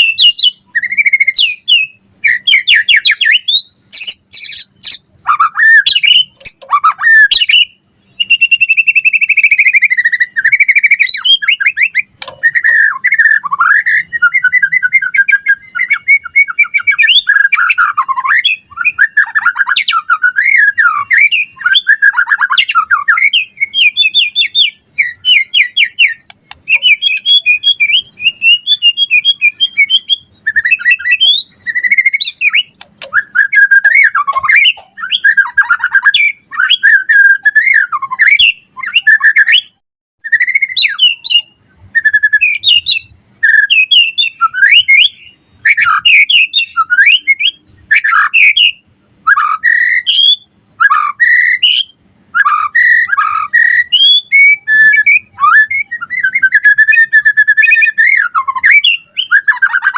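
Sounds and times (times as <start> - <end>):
bird singing whistles and trills: 0.0 - 59.9.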